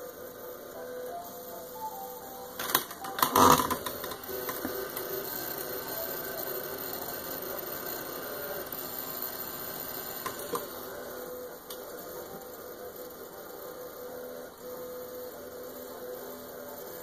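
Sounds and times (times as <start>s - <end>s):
faint steady tones: 0.0s - 17.0s
hard drive spinning hum: 0.0s - 17.0s.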